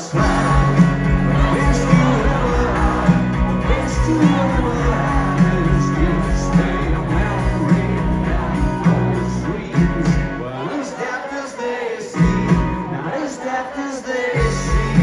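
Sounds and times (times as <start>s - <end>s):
live rock band playing: 0.0s - 10.7s, 12.1s - 13.1s, 14.4s - 15.0s
man singing: 0.0s - 15.0s.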